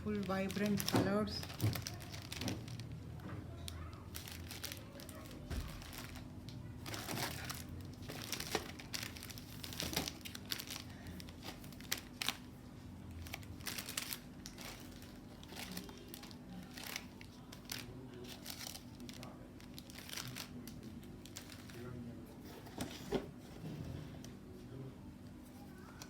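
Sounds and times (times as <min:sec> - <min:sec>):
packaging crinkling and rustling: 0:00.0 - 0:23.7.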